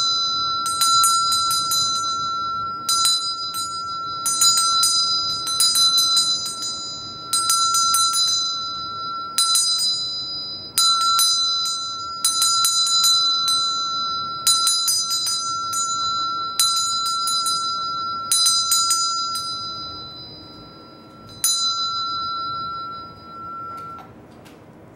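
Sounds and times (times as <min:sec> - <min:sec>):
hand bell ringing: 0:00.0 - 0:24.2.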